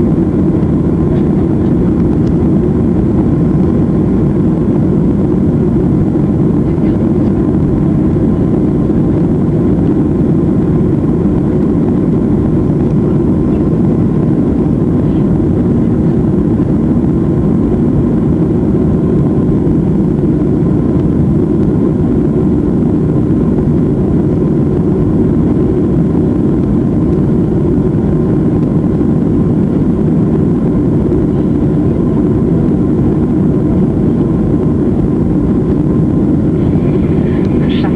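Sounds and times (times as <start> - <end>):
faint steady hum: 0.0 - 37.9
jet engines roaring on takeoff: 0.0 - 37.9.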